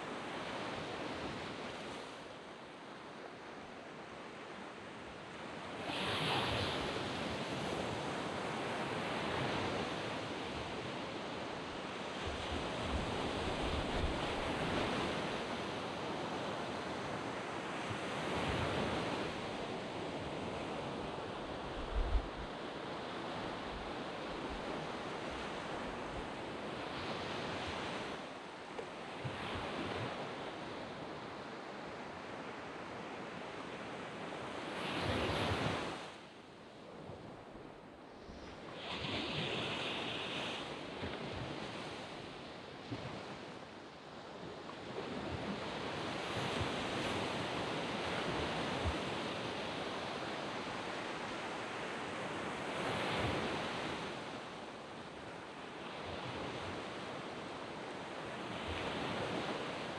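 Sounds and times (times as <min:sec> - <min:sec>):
small waves breaking on sand: 0:00.0 - 0:59.9.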